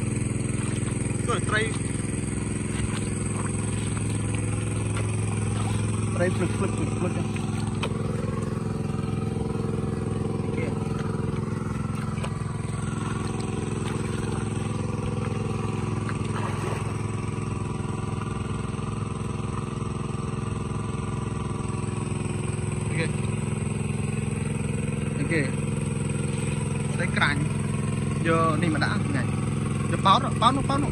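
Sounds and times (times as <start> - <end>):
water pump engine running: 0.0 - 30.9.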